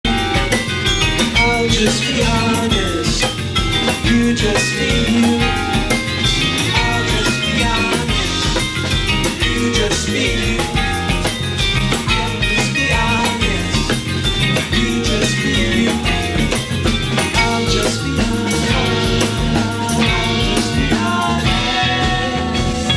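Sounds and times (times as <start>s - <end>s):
drum kit beat: 0.0s - 22.9s
live band playing: 0.0s - 22.9s.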